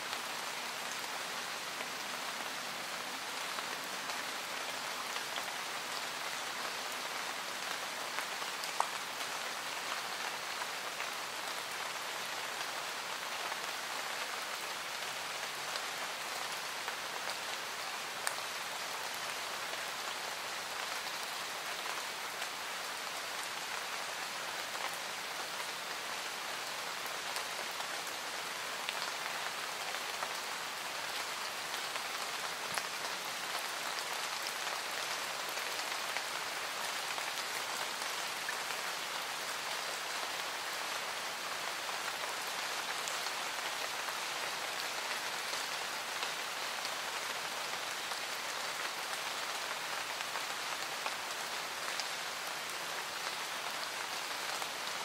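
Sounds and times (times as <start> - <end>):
steady rain in a forest: 0.0 - 55.0.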